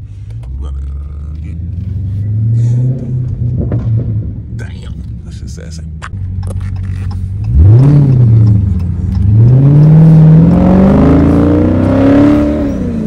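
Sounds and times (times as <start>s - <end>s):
car engine accelerating hard: 0.3s - 13.0s.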